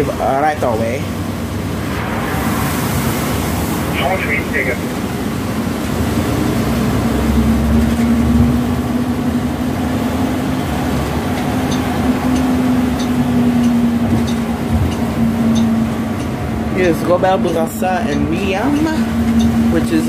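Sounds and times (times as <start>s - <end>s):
bus engine hum: 0.0s - 20.0s
road rumble: 0.0s - 20.0s.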